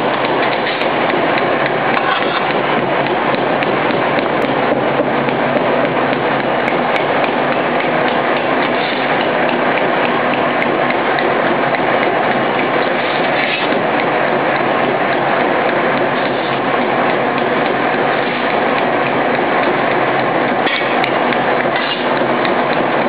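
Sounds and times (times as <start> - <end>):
briquette machines clattering: 0.0 - 23.0.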